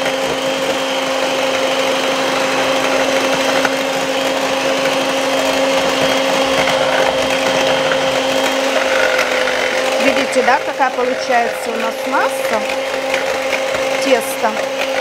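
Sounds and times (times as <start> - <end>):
electric hand mixer whirring: 0.0 - 15.0.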